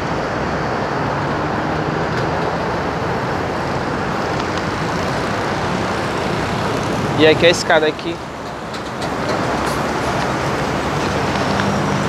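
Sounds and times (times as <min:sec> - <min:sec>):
low engine hum: 0:00.0 - 0:12.0
tyres rushing on road: 0:00.0 - 0:12.0.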